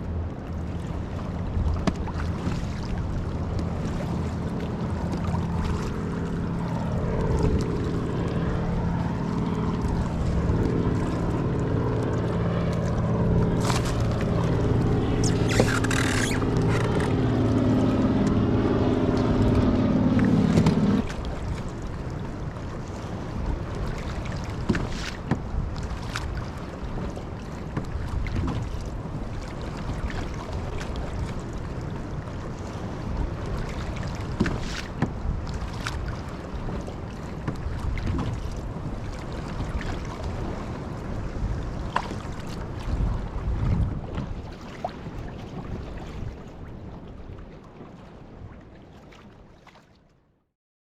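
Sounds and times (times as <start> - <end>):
choppy water washing: 0.0 - 50.3
wind: 0.0 - 50.5
knocks and splashes: 0.2 - 47.0.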